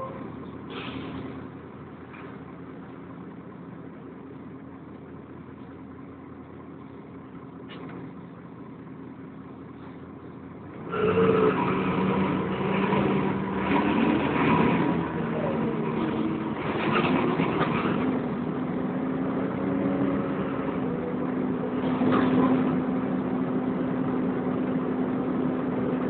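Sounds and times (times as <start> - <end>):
bus diesel engine running: 0.0 - 26.0
rough engine and cooling fan roar: 0.0 - 26.0.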